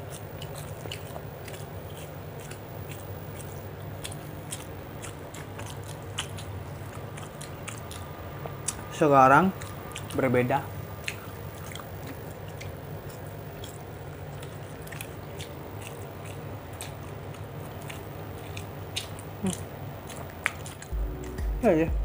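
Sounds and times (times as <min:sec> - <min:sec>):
person chewing food: 0:00.0 - 0:21.6
steady low hum: 0:00.0 - 0:22.0.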